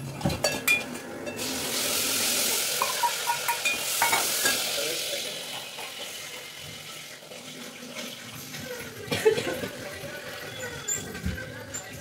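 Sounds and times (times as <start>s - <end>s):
food sizzling in a pan: 0.7s - 10.9s.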